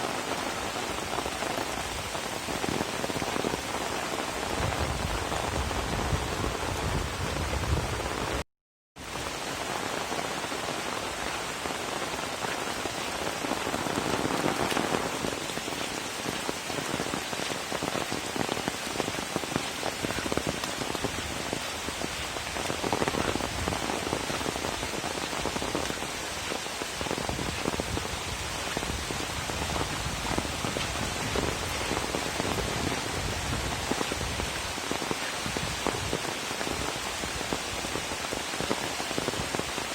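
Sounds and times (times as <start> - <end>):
rain pattering: 0.0 - 8.4, 9.0 - 39.9.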